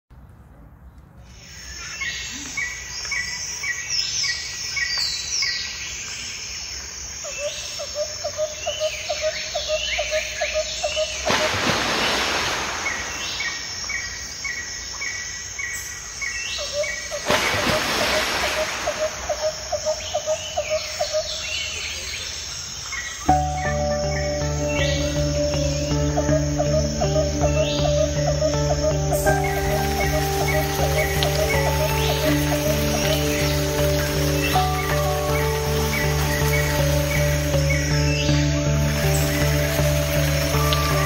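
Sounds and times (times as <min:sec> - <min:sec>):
birds singing and chirping: 0:01.3 - 0:41.0.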